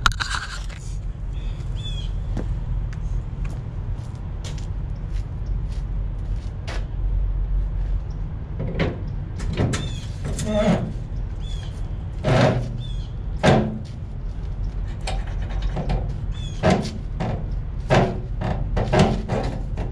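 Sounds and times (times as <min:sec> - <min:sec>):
diesel truck engines idling: 0:00.0 - 0:19.9.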